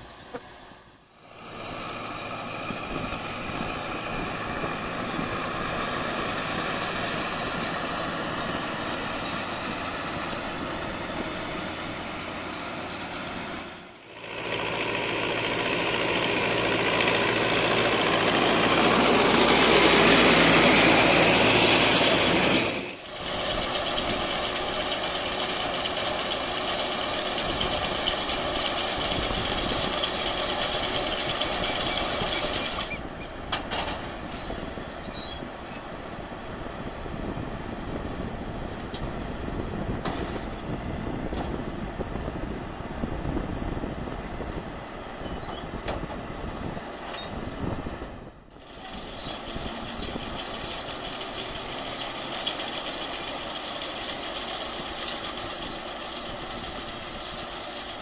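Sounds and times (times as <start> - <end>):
tractor diesel engine under load: 0.0 - 58.0
round baler baling: 1.3 - 43.4, 44.4 - 58.0.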